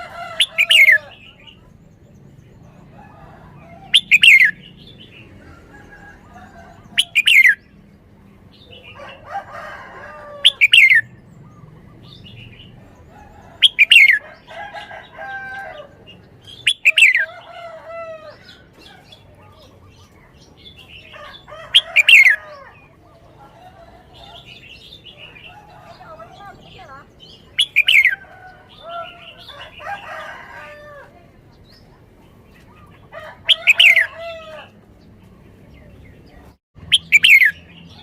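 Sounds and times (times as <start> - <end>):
bird singing falling phrases: 0.0 - 38.0.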